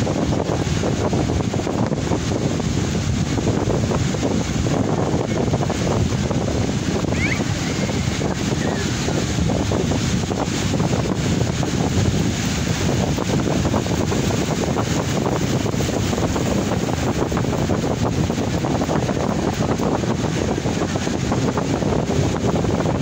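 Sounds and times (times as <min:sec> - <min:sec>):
small waves breaking on shore: 0:00.0 - 0:23.0
wind buffeting microphone: 0:00.0 - 0:23.0.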